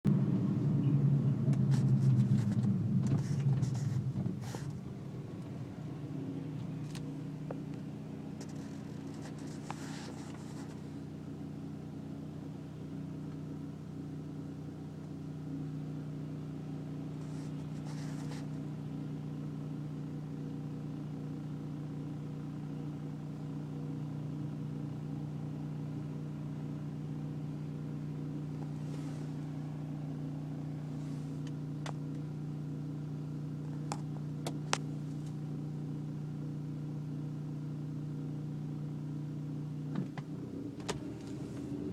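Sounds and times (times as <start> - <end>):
car engine idling: 0.1 - 41.9.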